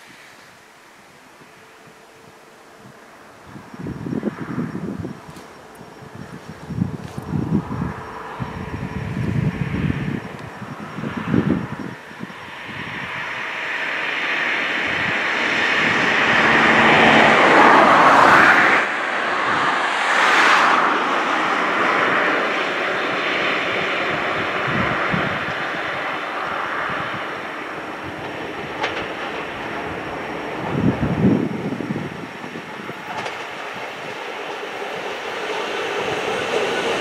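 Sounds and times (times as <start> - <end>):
electric train approaching: 0.0 - 37.0.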